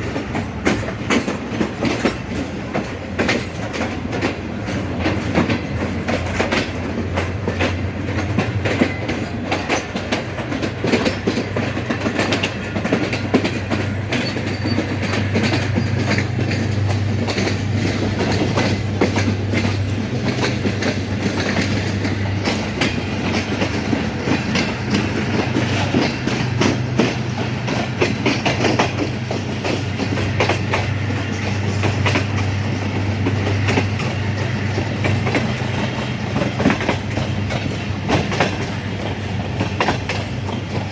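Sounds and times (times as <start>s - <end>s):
train rumbling on rails: 0.0s - 40.9s
wheels clicking over track: 0.0s - 40.9s.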